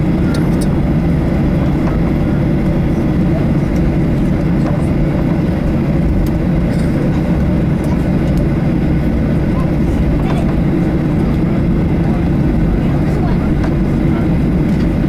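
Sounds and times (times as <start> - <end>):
jet engines low drone: 0.0 - 15.0.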